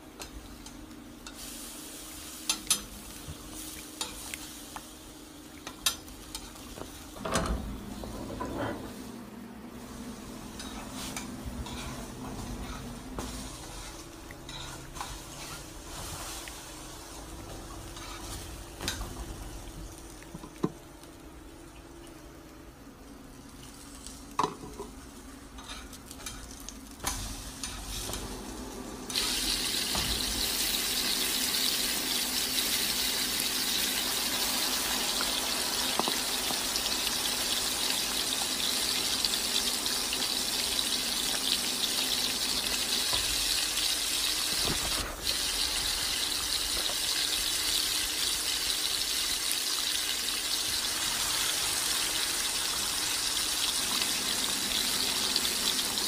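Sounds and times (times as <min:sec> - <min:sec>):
deep-frying oil sizzling: 0:00.0 - 0:07.6, 0:09.8 - 0:20.2, 0:23.4 - 0:56.0.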